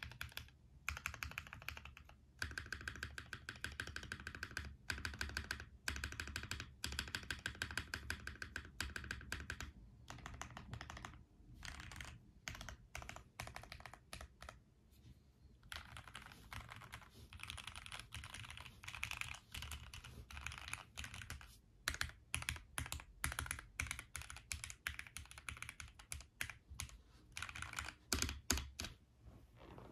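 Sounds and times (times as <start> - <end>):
mechanical keyboard typing: 0.0 - 14.6, 15.6 - 29.0.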